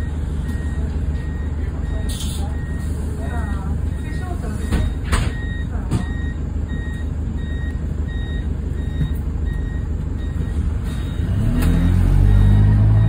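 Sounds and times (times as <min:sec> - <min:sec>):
bus door warning beeps: 0:00.0 - 0:13.0
diesel engine idling: 0:00.0 - 0:13.0.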